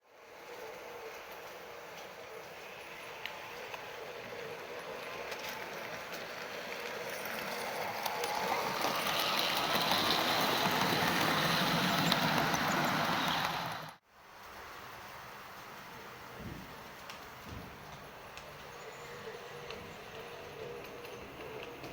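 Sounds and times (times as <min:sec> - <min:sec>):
model train running on track: 0:00.0 - 0:21.9.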